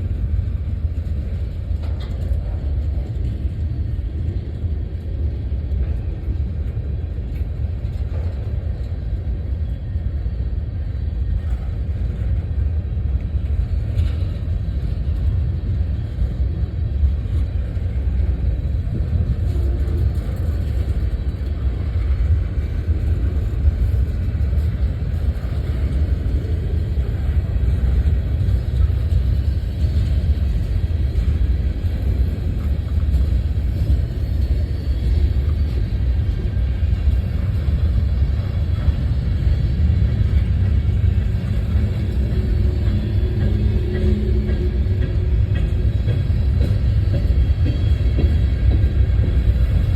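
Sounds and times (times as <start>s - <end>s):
train rumbling past: 0.0s - 49.9s.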